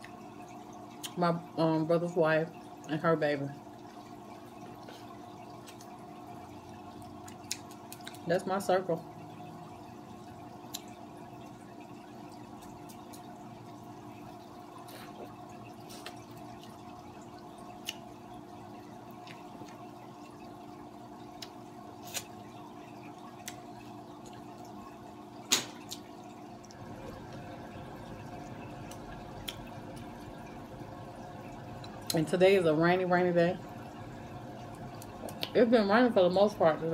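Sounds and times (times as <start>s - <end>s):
aquarium filter hum and trickle: 0.0s - 36.9s.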